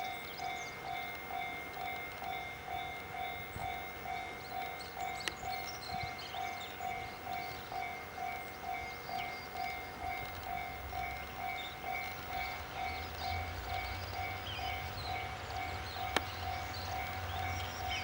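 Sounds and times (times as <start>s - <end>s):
low train rumble: 0.0s - 18.0s.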